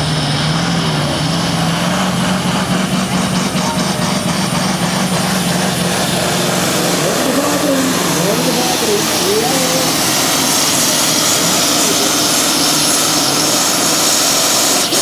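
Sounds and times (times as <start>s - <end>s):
diesel engine at full throttle: 0.0s - 15.0s.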